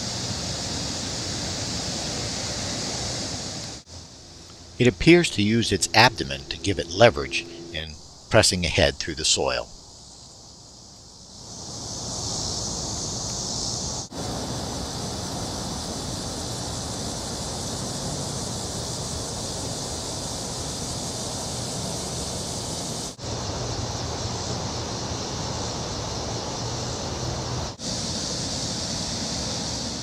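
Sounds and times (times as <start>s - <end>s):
cicadas droning: 0.0s - 30.0s
even hiss: 0.0s - 30.0s.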